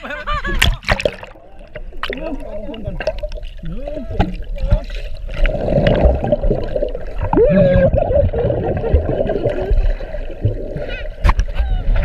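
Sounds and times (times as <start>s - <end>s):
water gurgling underwater: 0.5s - 12.0s.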